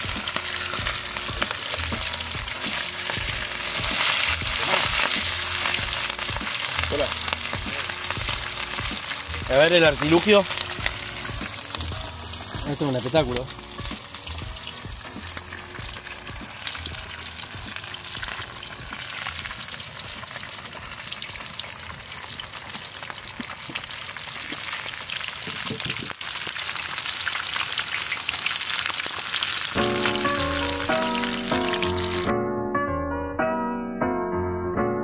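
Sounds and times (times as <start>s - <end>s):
oil sizzling and crackling: 0.0s - 32.3s.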